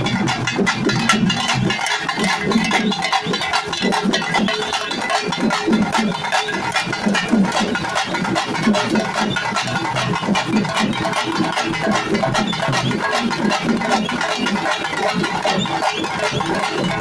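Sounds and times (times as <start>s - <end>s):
folk drums beaten with sticks: 0.0s - 17.0s.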